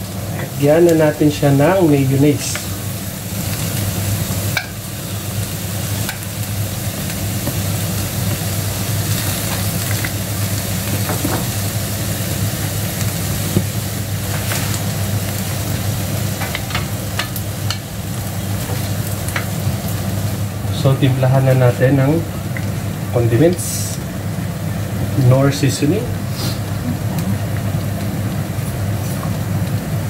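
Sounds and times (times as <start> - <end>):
steady low hum: 0.0 - 30.0
vegetables sizzling in frying pan: 0.0 - 30.0.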